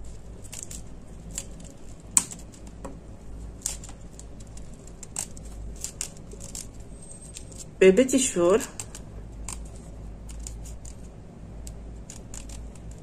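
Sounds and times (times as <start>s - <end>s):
crepe paper rustling and crinkling: 0.0s - 7.8s, 8.5s - 13.0s.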